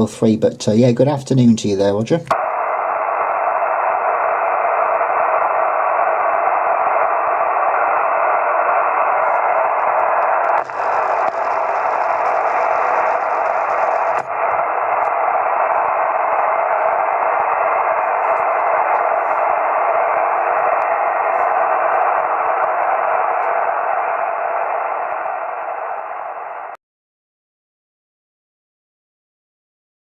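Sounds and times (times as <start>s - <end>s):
radio static hiss: 0.0s - 26.8s
radio click: 2.2s - 26.7s.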